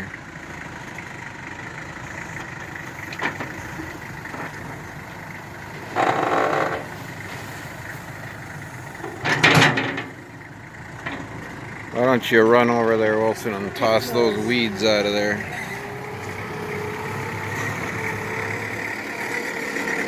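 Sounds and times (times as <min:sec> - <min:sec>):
loader scraping: 0:00.0 - 0:20.0
tractor loader engine running: 0:00.0 - 0:20.0.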